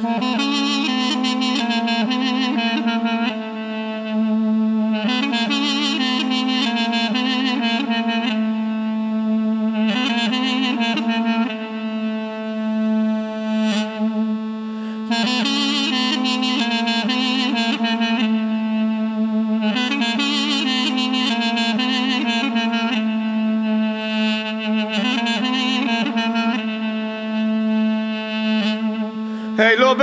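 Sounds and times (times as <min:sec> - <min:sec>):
reedy wind instrument melody: 0:00.0 - 0:30.0.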